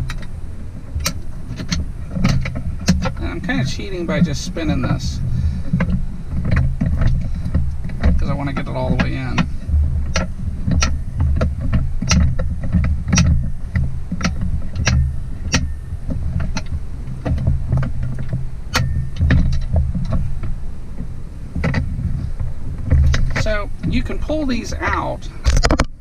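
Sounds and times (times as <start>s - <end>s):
low rumbling thumps: 0.0s - 26.0s
metal clicks and knocks: 0.0s - 26.0s.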